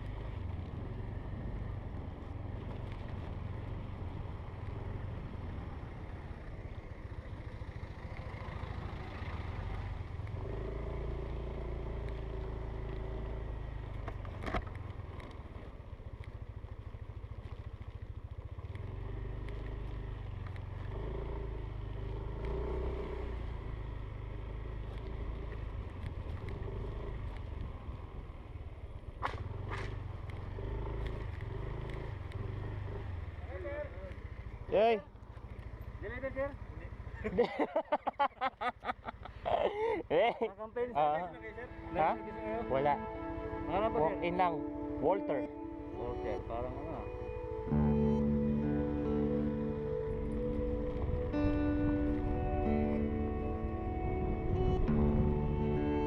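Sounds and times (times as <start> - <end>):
scooter engine running: 0.0 - 42.3, 44.7 - 56.0.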